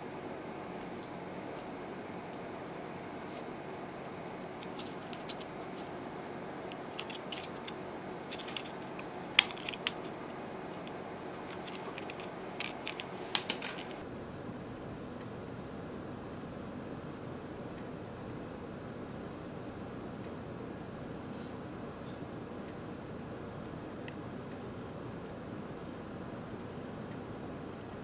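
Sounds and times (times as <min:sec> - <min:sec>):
steady background hiss: 0:00.0 - 0:28.0.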